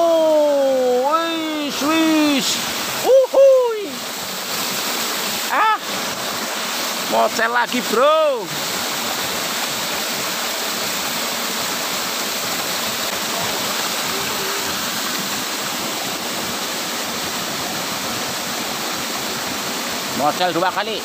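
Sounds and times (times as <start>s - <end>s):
water pouring into pool: 0.1s - 21.0s.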